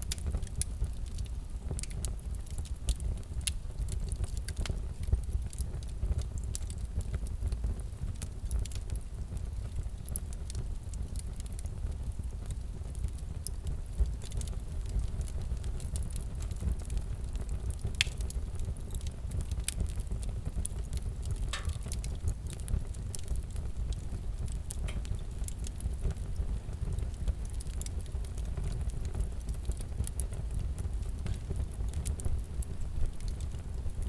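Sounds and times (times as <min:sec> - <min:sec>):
fire crackling and popping: 0:00.0 - 0:34.0
fire low rumble: 0:00.0 - 0:34.0.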